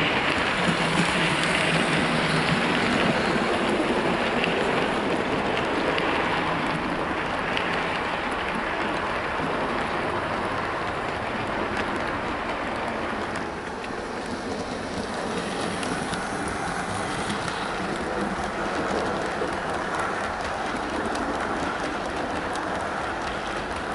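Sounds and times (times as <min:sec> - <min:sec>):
model train wheels rolling on rail: 0:00.0 - 0:23.9.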